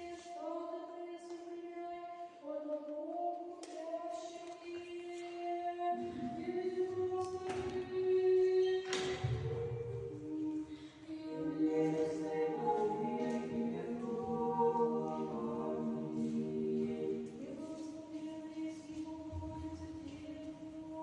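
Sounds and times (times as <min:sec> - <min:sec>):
women's choir singing chant: 0:00.0 - 0:21.0.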